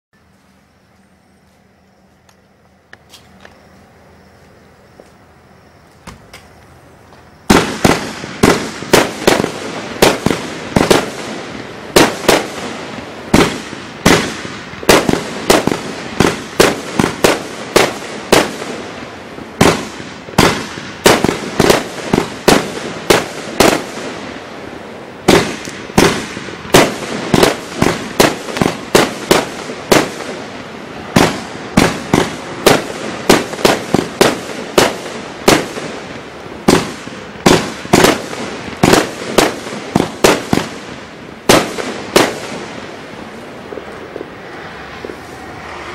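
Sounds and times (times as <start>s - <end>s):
steady background noise: 0.2s - 45.9s
firework bangs: 7.4s - 45.9s.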